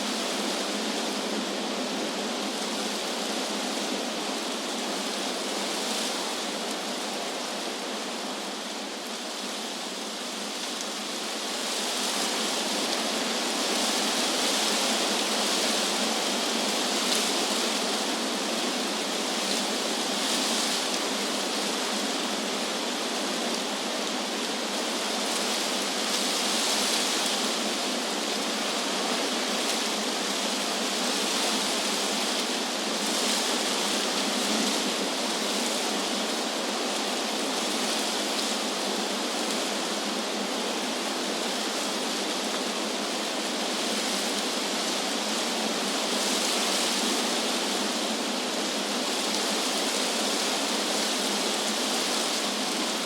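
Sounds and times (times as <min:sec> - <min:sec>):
wind rustling leaves: 0:00.0 - 0:53.0.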